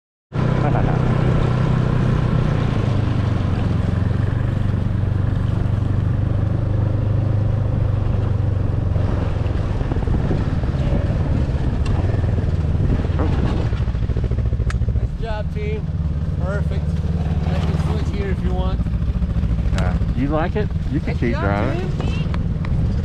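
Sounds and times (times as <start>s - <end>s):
snowmobile engine running: 0.4s - 23.0s.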